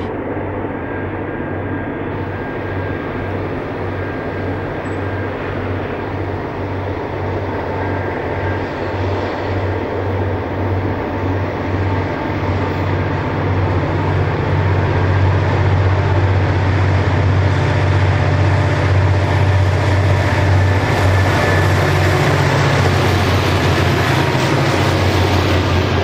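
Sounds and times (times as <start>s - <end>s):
locomotive engines droning: 0.0s - 26.0s.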